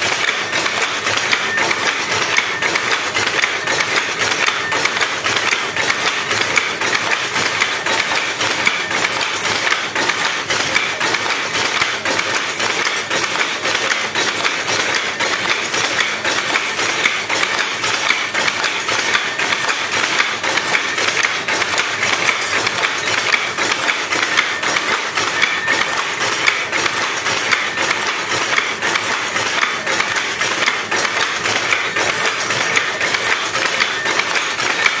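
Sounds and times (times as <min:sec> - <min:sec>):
power loom clattering: 0:00.0 - 0:35.0.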